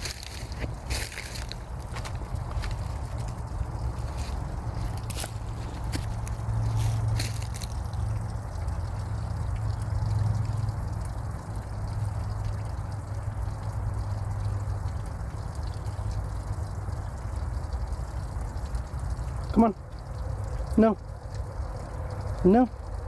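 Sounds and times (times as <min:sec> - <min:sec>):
water trickling: 0:00.0 - 0:23.0.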